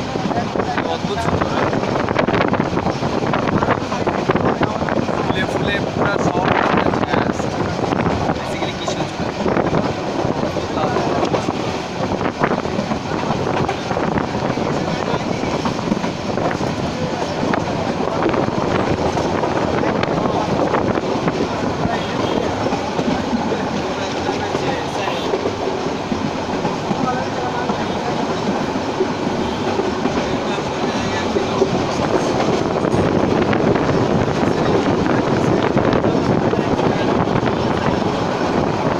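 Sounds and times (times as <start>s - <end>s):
train rumbling and rattling: 0.0s - 38.9s.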